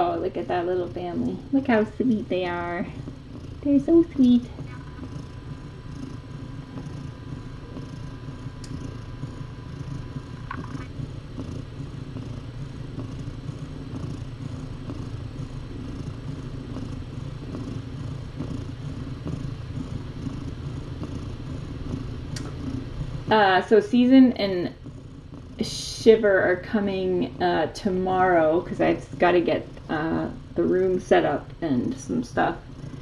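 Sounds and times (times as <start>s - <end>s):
cat purring: 0.0s - 33.0s.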